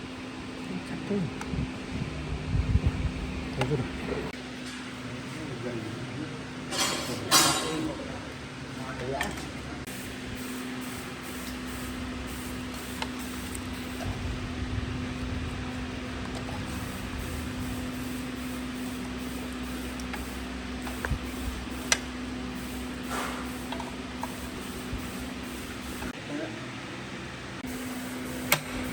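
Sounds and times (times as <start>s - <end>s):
machine hum: 0.0s - 6.8s, 7.9s - 28.9s.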